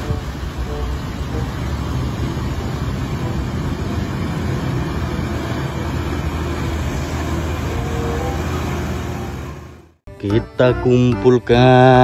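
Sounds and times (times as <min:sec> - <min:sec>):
water rushing around wheels: 0:00.0 - 0:10.0
diesel truck engine running: 0:00.0 - 0:10.1.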